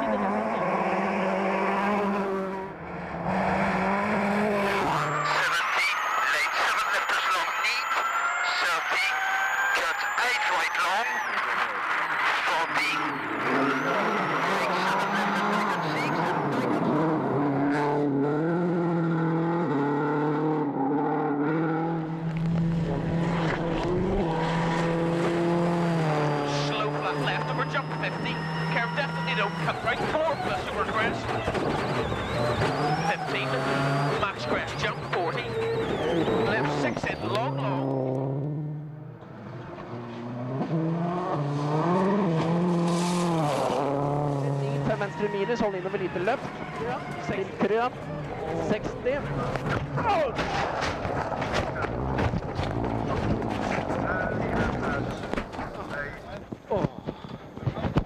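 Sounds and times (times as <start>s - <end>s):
rally car engine changing gear: 0.0s - 58.0s.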